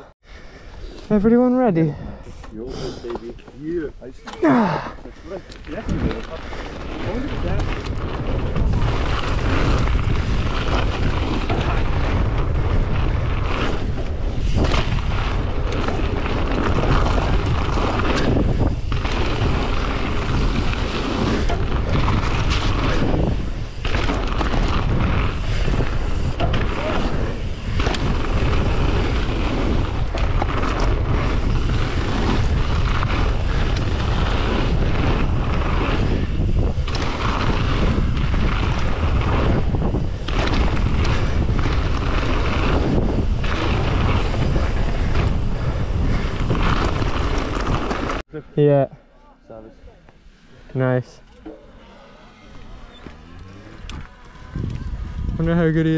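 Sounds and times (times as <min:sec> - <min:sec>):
wind buffeting microphone: 0:01.2 - 0:48.2, 0:52.7 - 0:55.9.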